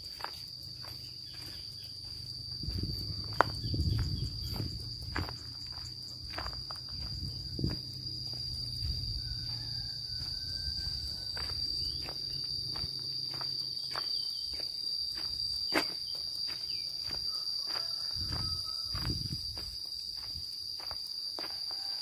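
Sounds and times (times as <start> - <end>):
footsteps on path: 0.0 - 22.0
insects droning: 0.0 - 22.0.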